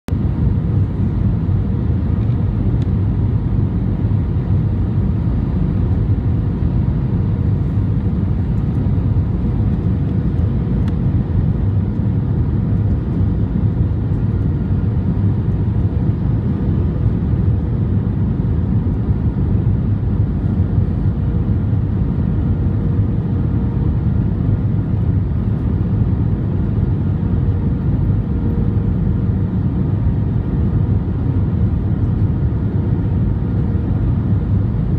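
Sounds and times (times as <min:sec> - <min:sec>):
jet engine rumble and rushing air: 0:00.1 - 0:34.9.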